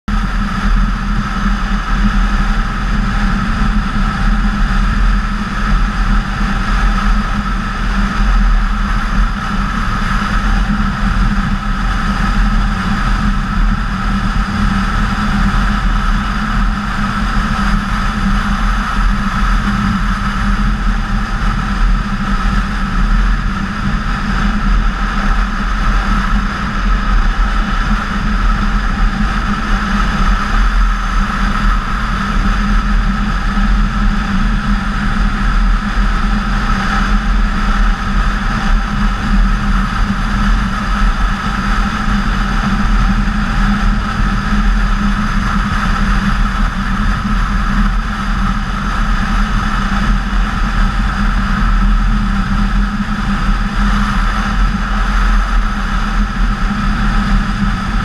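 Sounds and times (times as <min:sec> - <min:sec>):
wind rush: 0:00.1 - 0:58.0.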